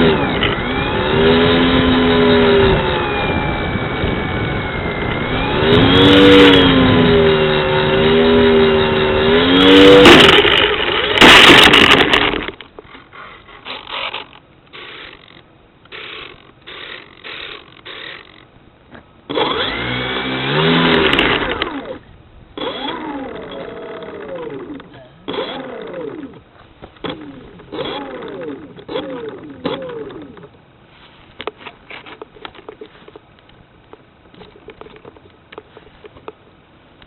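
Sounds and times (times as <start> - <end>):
electric motor and propeller: 0.0 - 18.5, 19.3 - 30.6.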